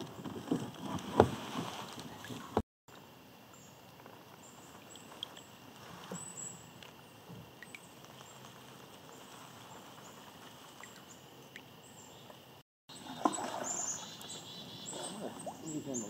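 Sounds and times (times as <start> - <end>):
faint river hiss: 1.0 - 16.0.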